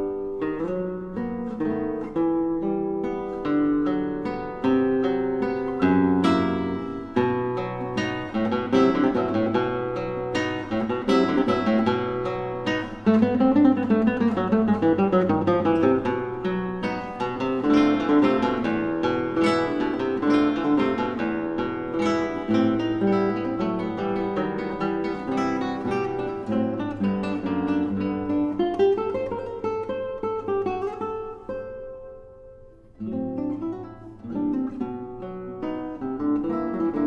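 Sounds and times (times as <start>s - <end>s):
acoustic guitar playing: 0.0s - 37.0s.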